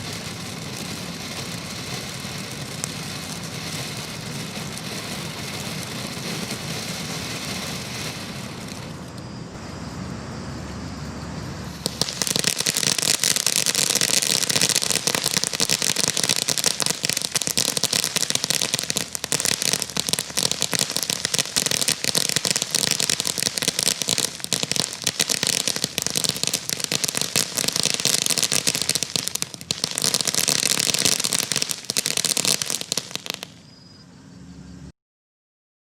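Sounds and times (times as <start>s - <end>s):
ground fountain firework crackling: 0.0s - 33.8s
firework steady noise: 0.0s - 34.0s.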